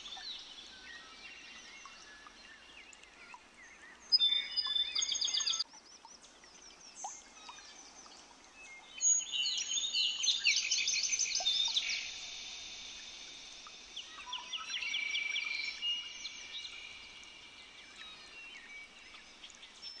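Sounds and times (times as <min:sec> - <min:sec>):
faint outdoor background noise: 0:00.0 - 0:20.0
songbirds chirping trills: 0:00.0 - 0:20.0.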